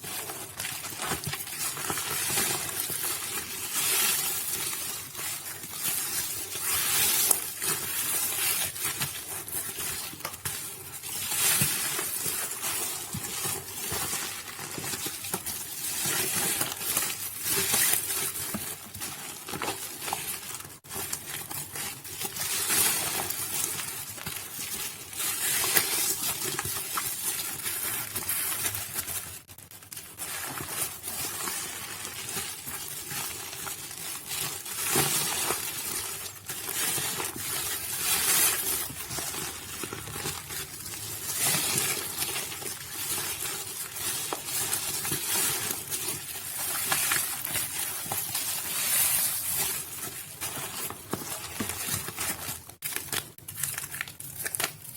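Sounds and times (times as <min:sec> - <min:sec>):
wet soap crushed and squished: 0:00.0 - 0:54.9.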